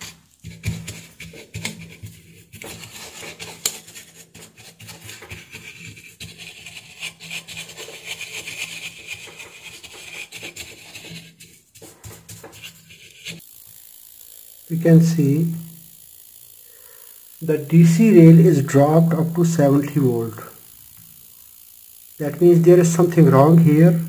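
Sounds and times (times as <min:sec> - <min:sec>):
brush scrubbing circuit board: 0:00.0 - 0:24.0.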